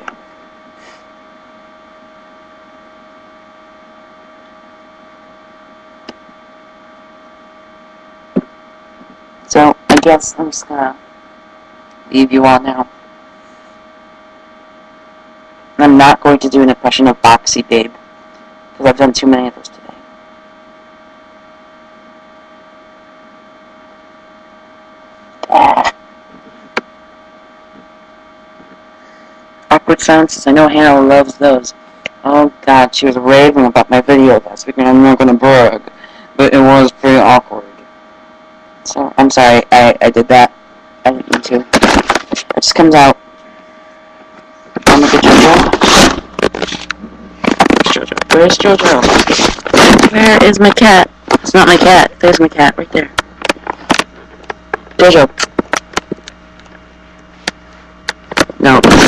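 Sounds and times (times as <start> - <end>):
constant whine: 0.0 - 59.0
electrical hum and hiss: 0.0 - 59.0.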